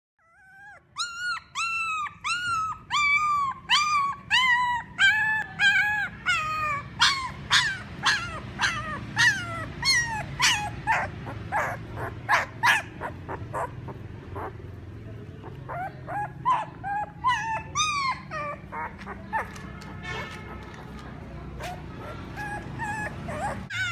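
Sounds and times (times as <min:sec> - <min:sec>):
puppy crying and yelping: 0:00.2 - 0:14.8, 0:15.4 - 0:19.7, 0:21.6 - 0:23.9.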